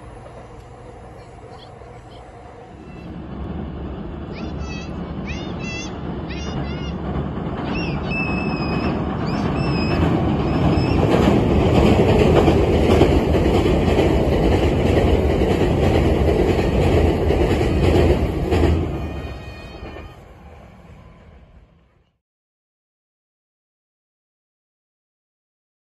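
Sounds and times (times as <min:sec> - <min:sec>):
train wheels rumbling on bridge: 0:00.0 - 0:22.0.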